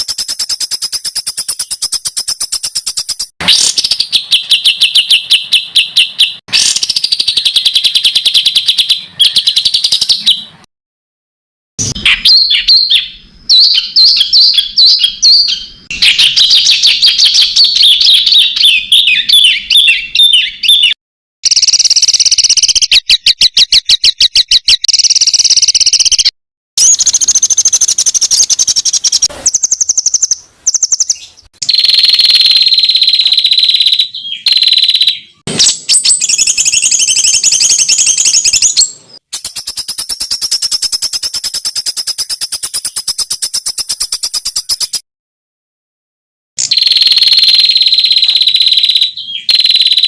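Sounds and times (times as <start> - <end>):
songbird song: 0.0 - 10.7, 11.8 - 45.0, 46.6 - 50.0.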